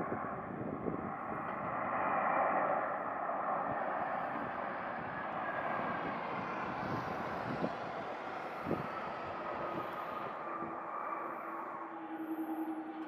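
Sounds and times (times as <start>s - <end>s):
falling engine whine: 0.0s - 13.0s
jet engine roar: 0.0s - 13.0s.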